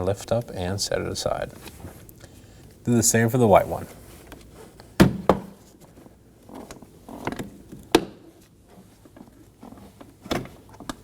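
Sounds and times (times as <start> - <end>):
soft handling rustle: 0.1 - 5.0, 5.6 - 11.0.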